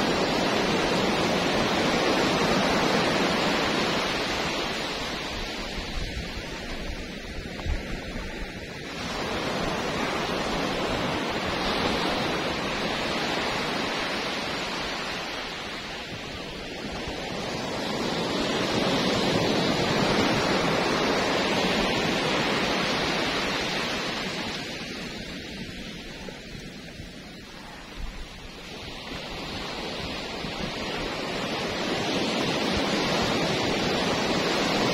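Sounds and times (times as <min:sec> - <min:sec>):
waves breaking on beach: 0:00.0 - 0:34.9.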